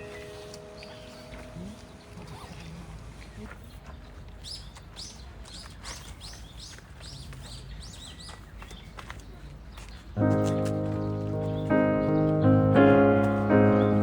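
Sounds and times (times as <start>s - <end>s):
faint outdoor background noise: 0.0s - 14.0s
small birds chirping: 0.0s - 14.0s.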